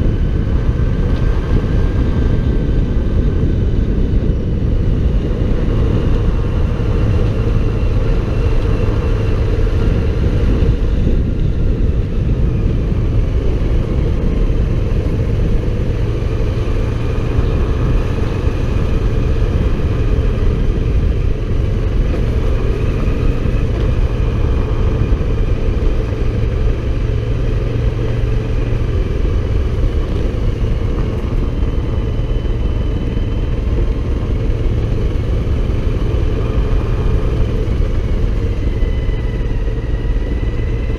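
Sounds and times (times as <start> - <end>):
faint whine: 0.0 - 40.9
motorcycle engine running: 0.0 - 40.9.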